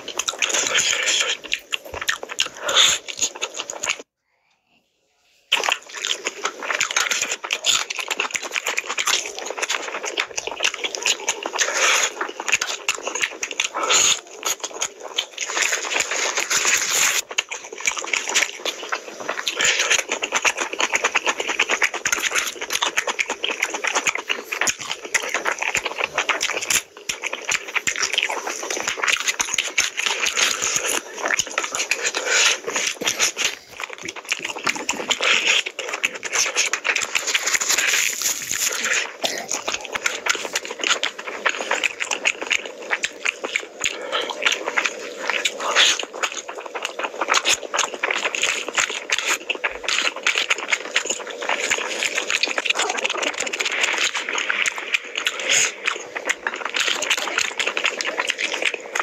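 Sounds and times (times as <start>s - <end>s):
open-mouth chewing and lip-smacking: 0.0s - 4.1s, 5.5s - 59.0s.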